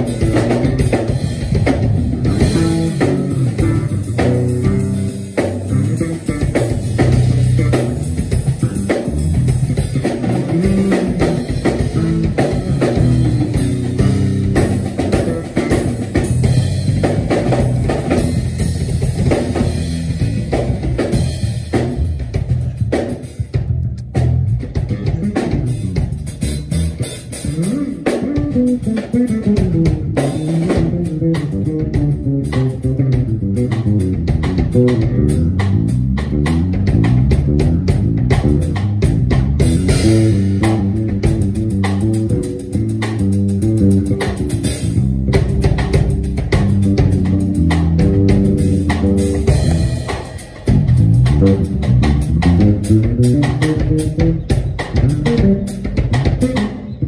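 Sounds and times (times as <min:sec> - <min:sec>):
bass guitar with quick notes: 0:00.0 - 0:57.0
drum kit playing: 0:00.0 - 0:57.0.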